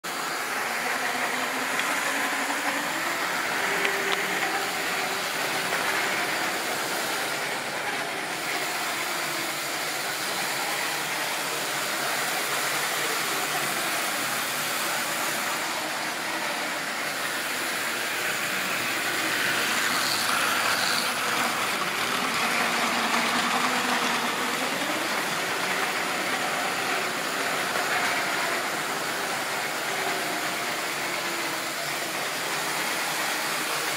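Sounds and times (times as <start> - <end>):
electric motor whine: 0.1 - 33.9
model train wheels rumbling on rails: 0.1 - 33.9.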